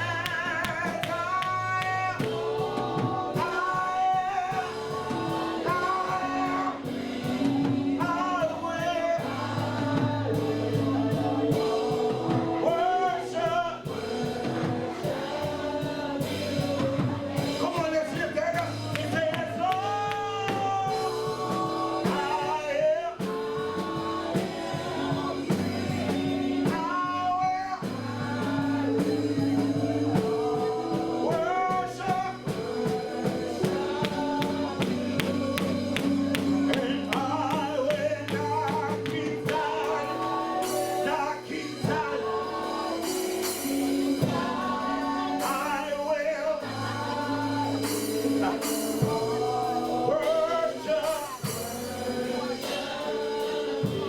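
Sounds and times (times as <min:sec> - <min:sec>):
gospel singing with band: 0:00.0 - 0:54.0
steady drum beat: 0:00.0 - 0:54.0.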